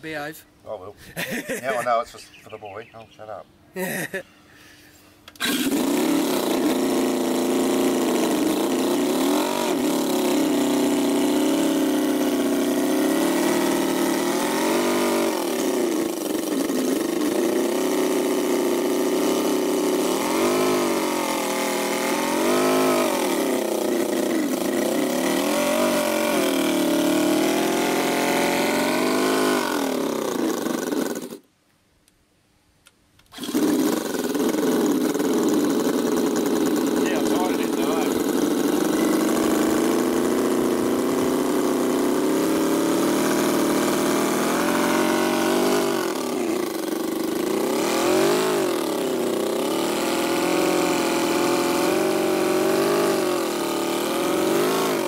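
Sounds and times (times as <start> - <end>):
engine revving: 5.4 - 31.4, 33.4 - 55.0.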